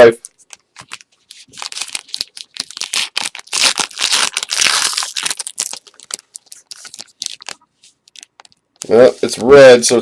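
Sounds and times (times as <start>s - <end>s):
plastic wrapper crinkling and tearing: 0.3s - 9.0s.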